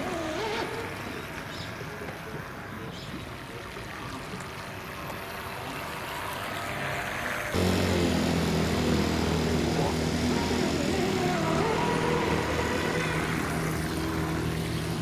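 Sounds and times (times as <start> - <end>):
model boat motor hum: 0.0 - 3.0, 4.7 - 15.0
water wash: 0.0 - 15.0.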